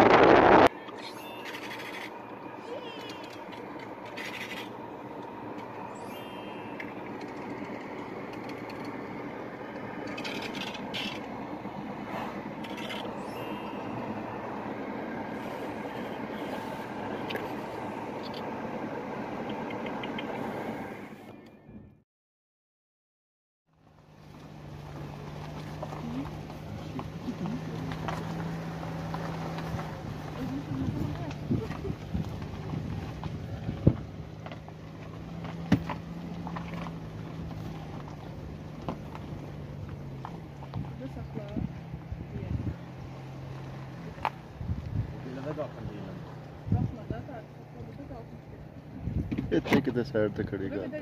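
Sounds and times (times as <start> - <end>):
road and engine noise in car: 0.0 - 22.0, 23.7 - 51.0.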